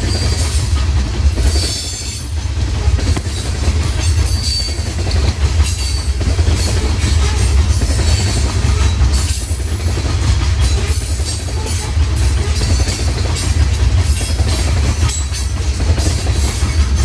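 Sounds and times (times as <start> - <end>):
heavy low rumble of freight cars: 0.0 - 17.0
steel wheels clacking on rail joints: 0.0 - 17.0.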